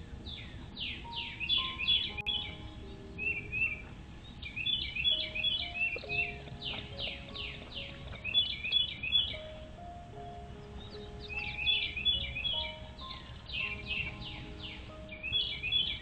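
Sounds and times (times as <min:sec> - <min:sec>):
birds chirping: 0:00.0 - 0:16.0
soft background music: 0:00.0 - 0:16.0.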